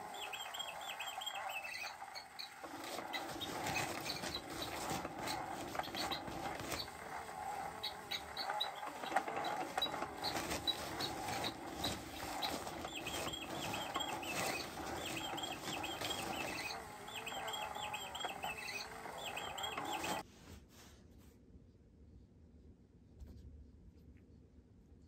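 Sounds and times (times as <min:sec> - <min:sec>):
toy motor whirring: 0:00.0 - 0:20.2.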